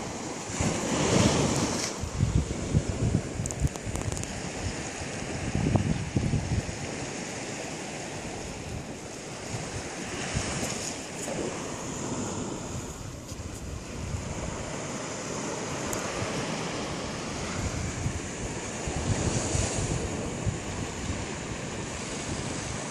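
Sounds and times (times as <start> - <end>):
sea surf washing on shore: 0.0 - 22.9
wind buffeting microphone: 0.0 - 22.9.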